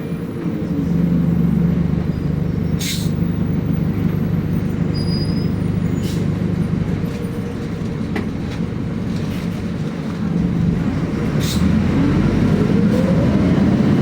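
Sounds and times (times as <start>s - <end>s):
bus engine hum: 0.0s - 14.0s
road rumble: 0.0s - 14.0s.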